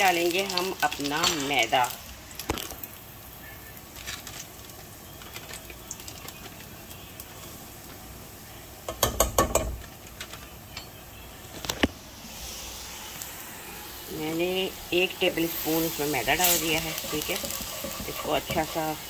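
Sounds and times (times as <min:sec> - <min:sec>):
faint steady background noise: 0:00.0 - 0:19.0.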